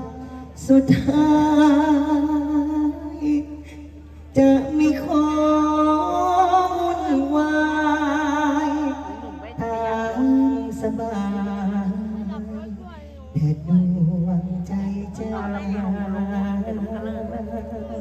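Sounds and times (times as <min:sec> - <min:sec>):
man singing with vibrato: 0:00.0 - 0:18.0.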